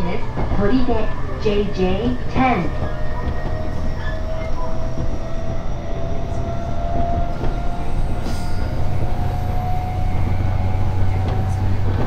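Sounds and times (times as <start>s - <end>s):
thin train whine: 0.0s - 12.0s
train wheels rumbling on rails: 0.0s - 12.0s.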